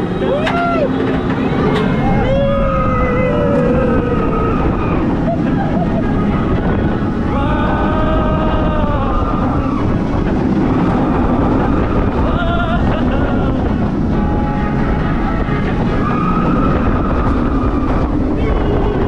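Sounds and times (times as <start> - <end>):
roller coaster wheels rumbling: 0.0 - 19.0
wind on microphone: 0.0 - 19.0.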